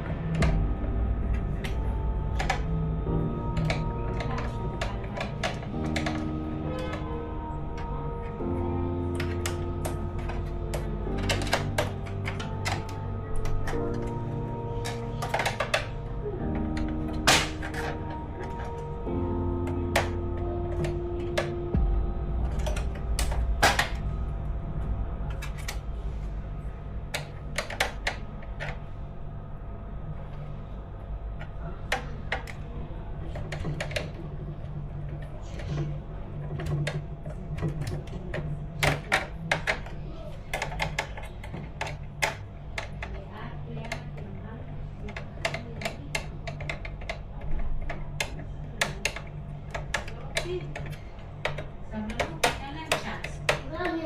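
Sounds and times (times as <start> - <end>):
steady low hum: 0.0 - 54.0
plastic parts clicking and tapping: 1.3 - 2.8, 3.4 - 21.9, 22.5 - 24.1, 27.1 - 28.8, 31.4 - 54.0.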